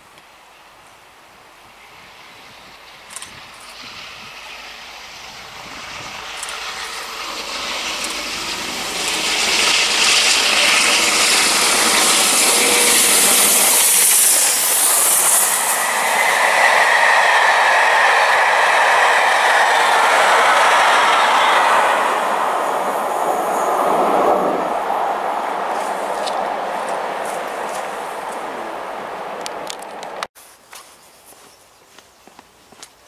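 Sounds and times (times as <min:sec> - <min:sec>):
steam train passing: 0:00.0 - 0:30.3.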